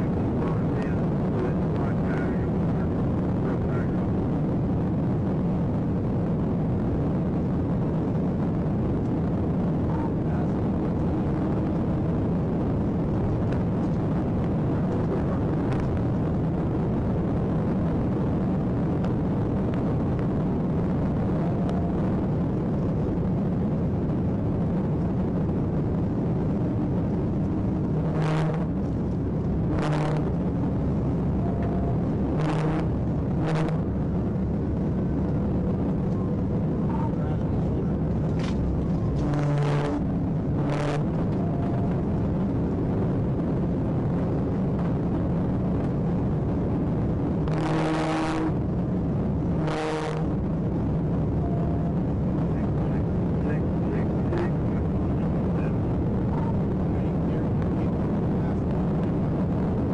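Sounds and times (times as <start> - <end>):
car engine road and wind noise: 0.0 - 59.9.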